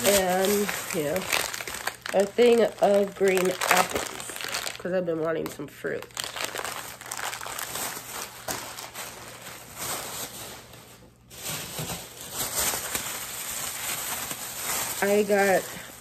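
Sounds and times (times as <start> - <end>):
plastic bags rustling and crinkling: 0.0 - 16.0.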